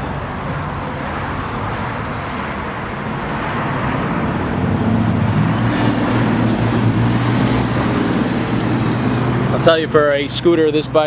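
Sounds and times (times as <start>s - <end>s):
passing vehicles: 0.0s - 11.0s
vehicle engine hum: 0.0s - 11.0s.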